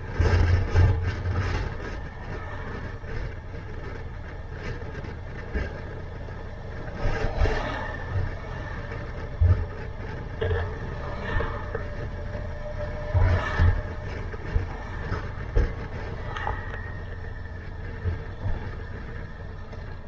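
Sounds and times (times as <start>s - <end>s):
passing traffic: 0.0s - 20.0s
wind rush on microphone: 0.0s - 20.0s.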